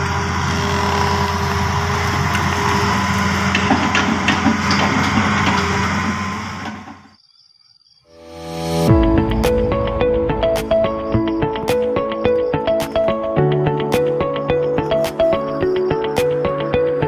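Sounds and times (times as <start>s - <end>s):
excavator engine running: 0.0s - 7.1s, 9.0s - 17.0s.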